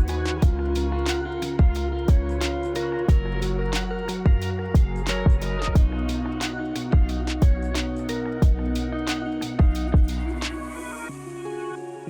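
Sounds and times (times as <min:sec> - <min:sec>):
sustained notes over heavy bass: 0:00.0 - 0:10.8.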